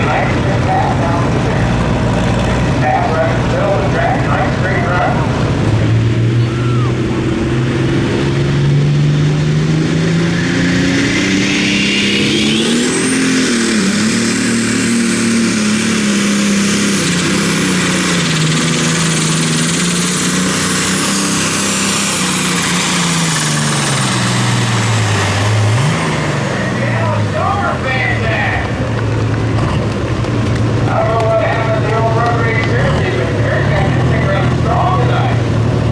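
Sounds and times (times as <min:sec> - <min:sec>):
tractor engine running hard: 0:00.0 - 0:35.9.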